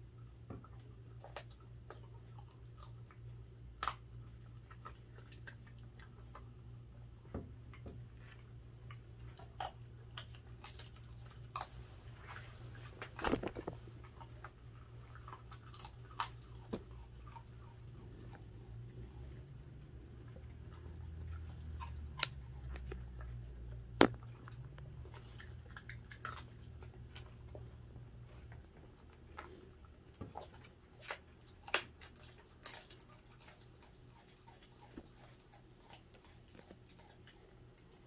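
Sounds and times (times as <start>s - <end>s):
dog chewing and crunching: 0.2s - 7.0s, 7.6s - 38.0s.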